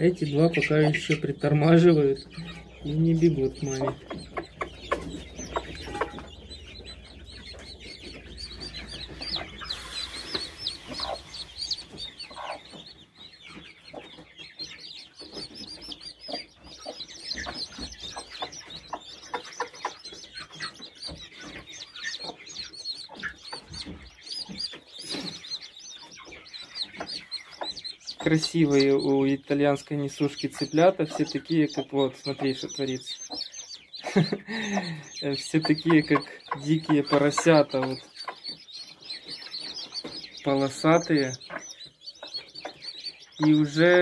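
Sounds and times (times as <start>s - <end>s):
chicks peeping: 0.0s - 44.0s
hen clucking: 0.0s - 44.0s.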